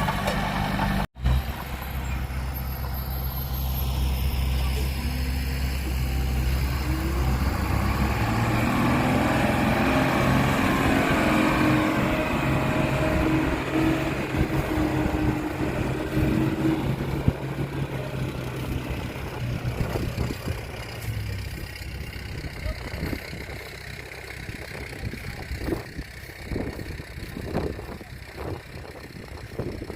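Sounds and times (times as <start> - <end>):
heavy diesel engine under load: 0.0 - 29.9.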